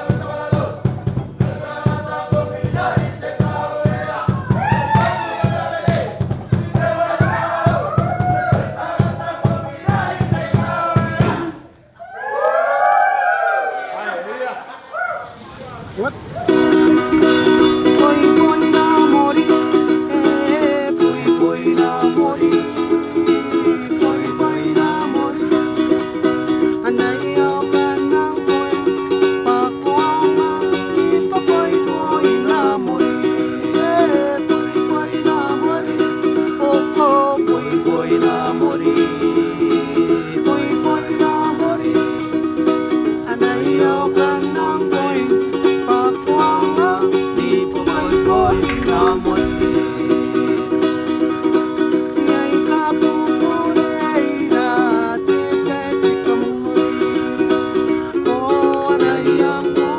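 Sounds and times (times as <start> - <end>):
ukulele strumming: 0.0 - 11.6, 16.3 - 59.9.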